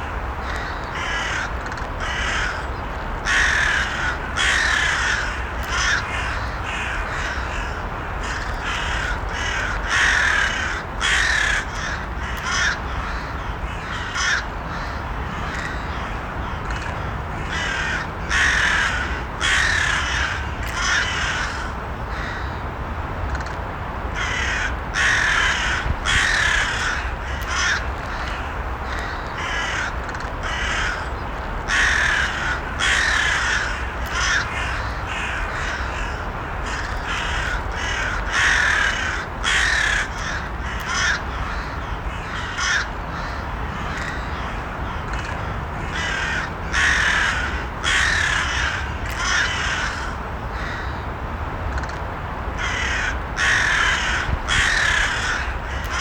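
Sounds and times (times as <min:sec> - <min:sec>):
low background noise: 0:00.0 - 0:56.0
crows cawing: 0:00.4 - 0:22.6, 0:24.2 - 0:51.0, 0:52.6 - 0:56.0.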